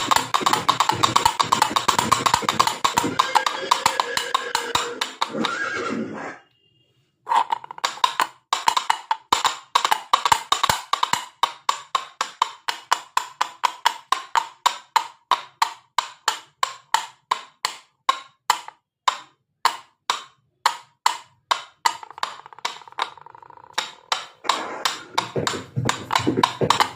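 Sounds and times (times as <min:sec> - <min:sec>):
hollow wooden hoofbeat clops: 0:00.0 - 0:05.6, 0:07.3 - 0:26.9.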